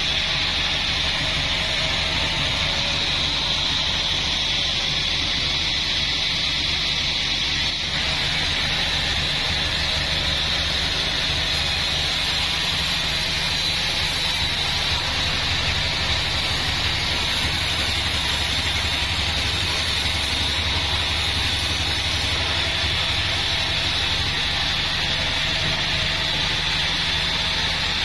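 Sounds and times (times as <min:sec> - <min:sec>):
band sawmill sawing a log: 0:00.0 - 0:28.0.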